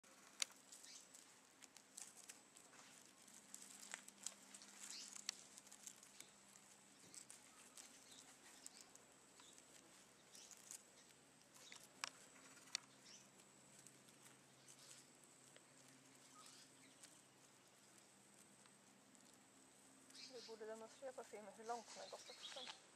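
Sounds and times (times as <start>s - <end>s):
dry leaves crackling: 0.0s - 22.9s.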